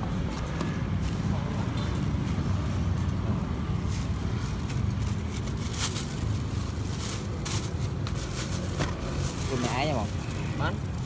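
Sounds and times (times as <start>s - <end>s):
low rumble of street noise: 0.0s - 11.0s.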